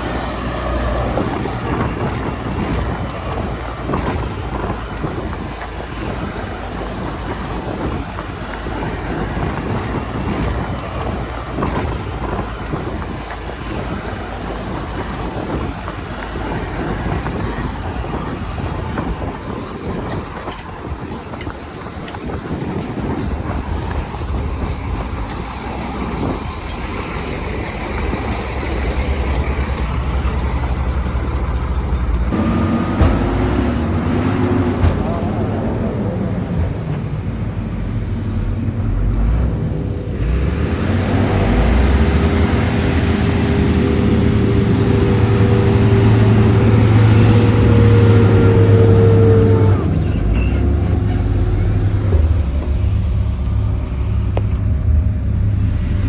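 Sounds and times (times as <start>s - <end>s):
knocks and clanks: 0.0s - 55.2s
diesel machinery running: 0.0s - 56.0s.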